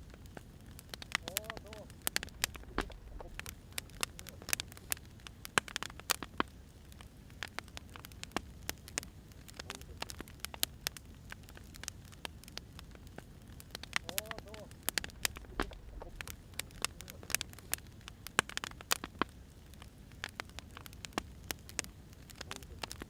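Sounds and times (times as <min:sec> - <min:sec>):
firewood crackling and popping: 0:00.0 - 0:23.0
low rumble of fire: 0:00.0 - 0:23.0.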